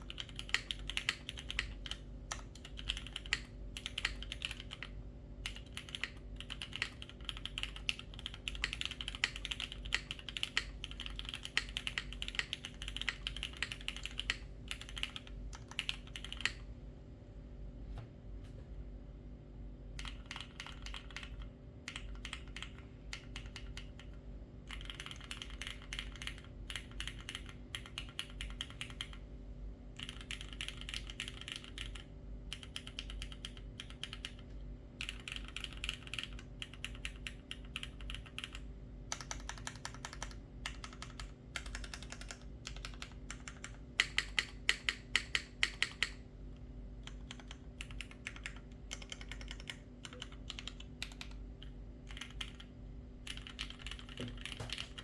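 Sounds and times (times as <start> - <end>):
mechanical keyboard typing: 0.0 - 16.6, 20.0 - 29.2, 30.0 - 46.2, 47.0 - 55.0.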